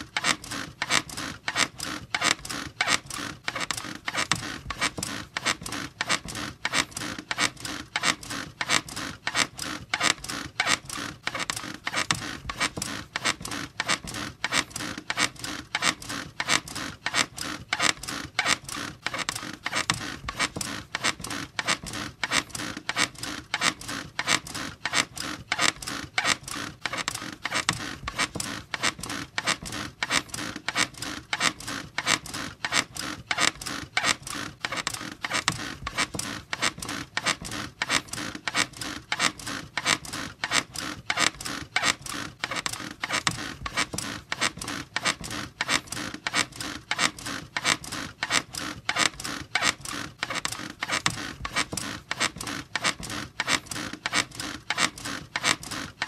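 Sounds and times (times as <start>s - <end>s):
bed squeaking rhythmically: 0.0s - 56.0s.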